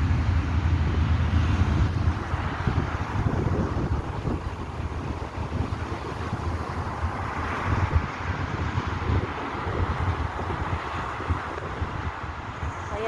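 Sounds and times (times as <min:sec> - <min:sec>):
road traffic noise: 0:00.0 - 0:13.0
wind buffeting microphone: 0:00.0 - 0:13.0.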